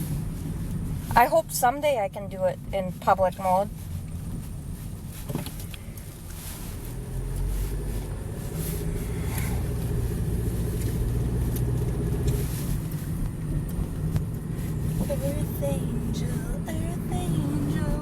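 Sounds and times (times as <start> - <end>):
car engine from inside cabin: 0.0 - 18.0
road noise: 0.0 - 18.0.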